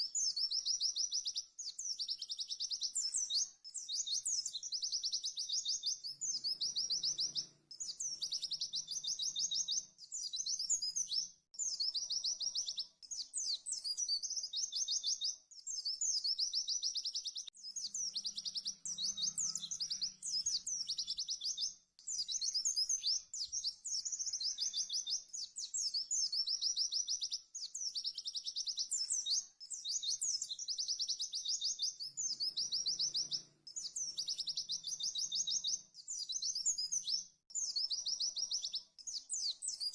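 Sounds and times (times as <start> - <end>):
white-eye bird trilling song: 0.0 - 39.9.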